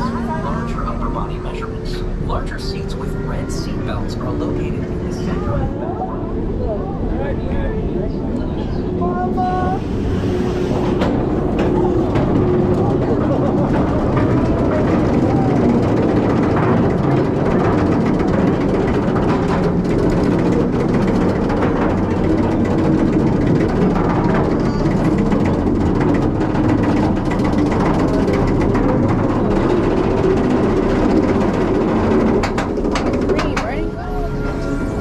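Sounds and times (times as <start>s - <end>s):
roller coaster lift clatter: 0.0s - 35.0s.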